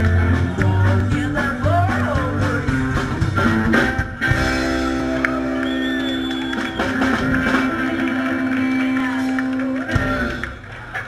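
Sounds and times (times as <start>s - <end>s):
drumming: 0.0s - 11.0s
rock and roll band playing: 0.0s - 11.0s.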